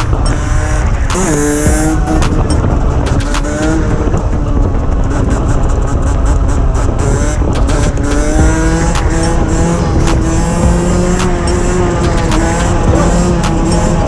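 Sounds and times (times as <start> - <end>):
motorcycle engine revving high: 0.0 - 14.0
wind rush on microphone: 0.0 - 14.0.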